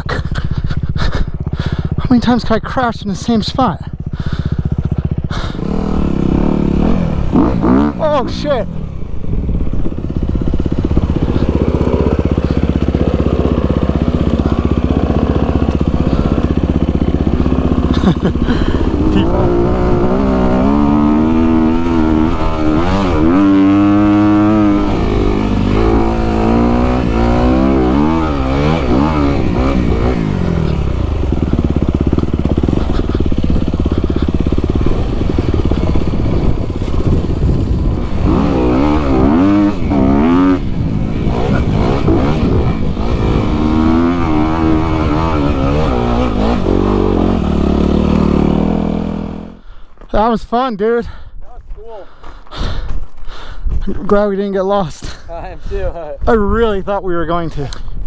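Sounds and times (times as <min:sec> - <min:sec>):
dirt bike engine revving: 0:00.1 - 0:49.7.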